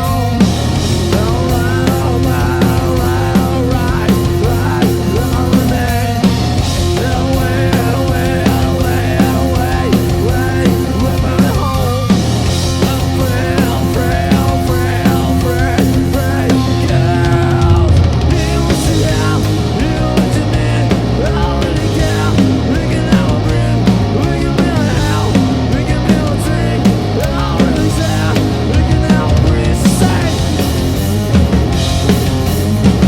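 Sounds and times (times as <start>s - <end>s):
drum kit beat: 0.0s - 33.0s
rock band playing: 0.0s - 33.0s.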